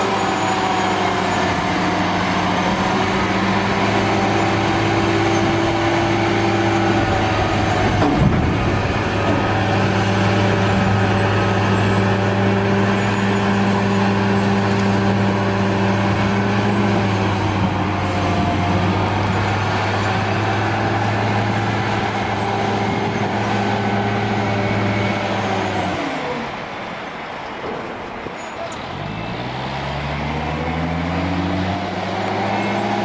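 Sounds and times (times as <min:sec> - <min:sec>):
heavy machine engine running: 0:00.0 - 0:33.0.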